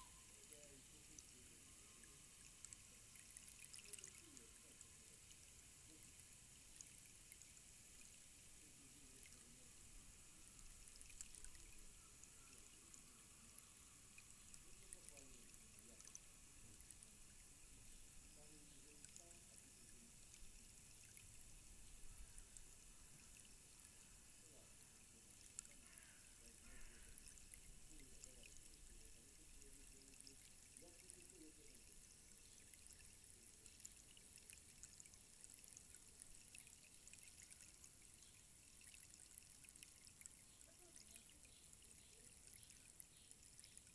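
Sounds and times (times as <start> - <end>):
rainstick trickling: 0.0 - 43.9.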